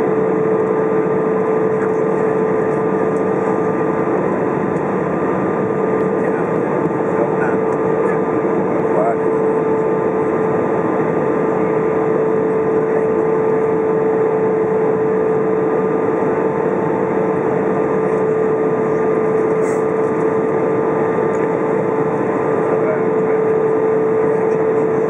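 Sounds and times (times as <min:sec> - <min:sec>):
aircraft engines and airflow rushing: 0:00.0 - 0:25.0
constant droning tone: 0:00.0 - 0:25.0.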